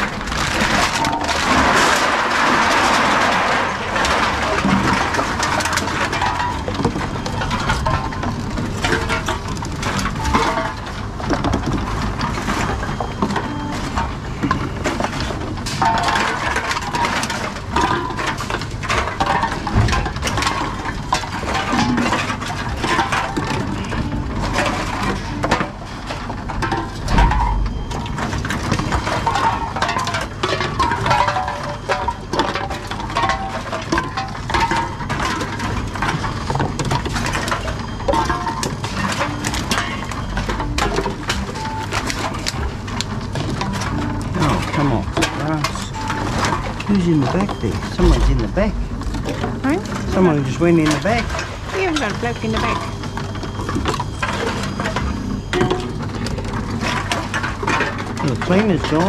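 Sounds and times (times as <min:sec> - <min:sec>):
cans and bottles clinking: 0:00.0 - 0:59.0
vending machine mechanism: 0:00.0 - 0:59.0.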